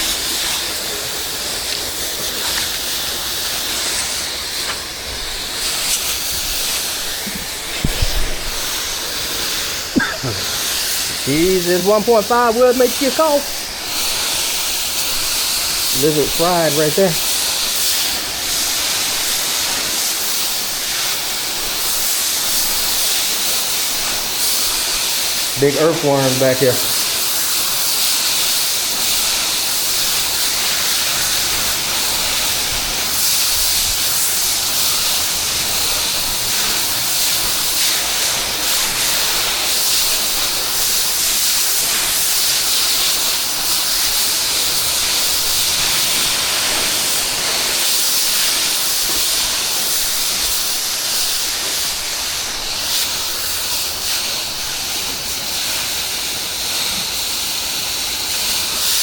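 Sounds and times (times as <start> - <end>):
pressure washer water spraying: 0.0 - 59.0.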